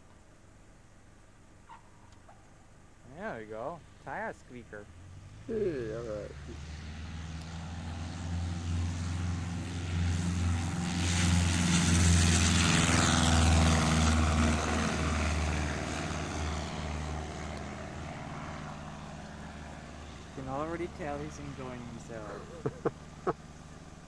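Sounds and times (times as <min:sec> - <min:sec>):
light aircraft engine at takeoff: 0:00.0 - 0:24.0.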